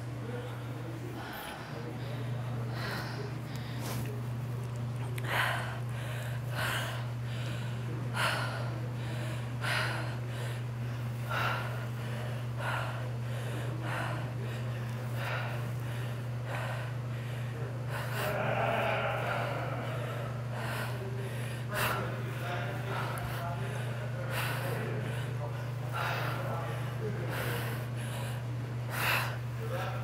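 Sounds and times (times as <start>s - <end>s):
steady low hum: 0.0s - 30.0s
woman breathing hard: 0.3s - 4.1s, 5.2s - 30.0s.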